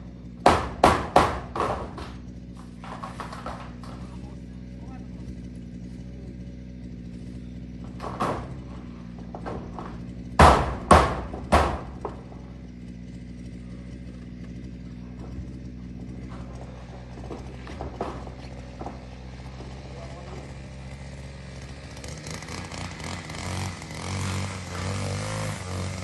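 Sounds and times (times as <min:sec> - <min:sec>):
hammer striking metal roofing: 0:00.0 - 0:04.2, 0:07.5 - 0:26.0.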